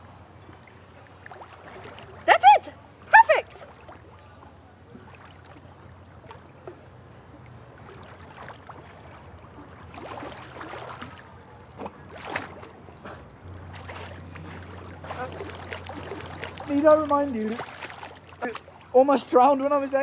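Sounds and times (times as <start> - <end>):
pool water splashing: 0.0 - 20.0
steady low hum: 0.0 - 20.0.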